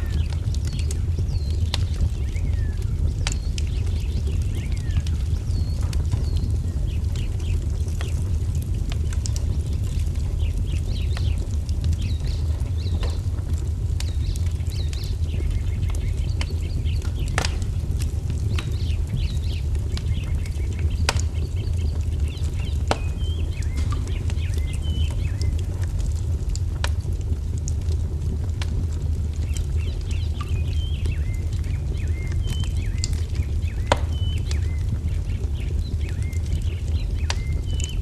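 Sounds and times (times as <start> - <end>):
small birds chirping: 0.0 - 26.6, 29.2 - 38.0
low rumble: 0.0 - 38.0
wood fire crackling and popping: 0.0 - 38.0.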